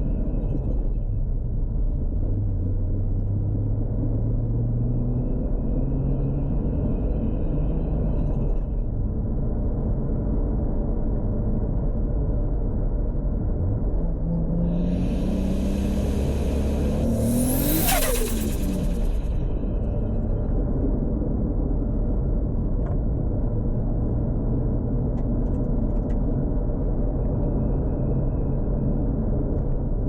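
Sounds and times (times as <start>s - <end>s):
car engine low drone: 0.0s - 30.0s.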